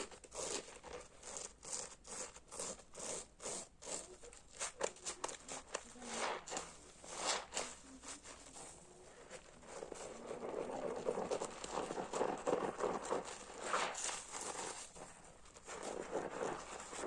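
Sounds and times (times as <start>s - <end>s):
soapy sponge squelching: 0.0s - 17.0s.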